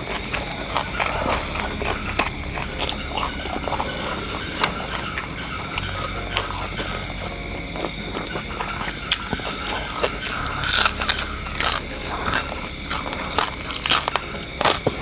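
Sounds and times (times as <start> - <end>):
crunchy rustles: 0.0 - 15.0
person biting and chewing: 0.0 - 15.0.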